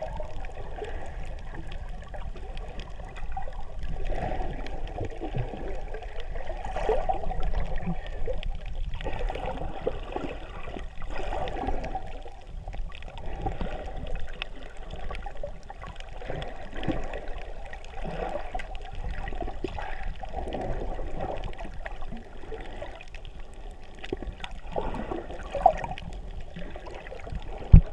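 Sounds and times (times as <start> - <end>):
water sloshing underwater: 0.0 - 27.9.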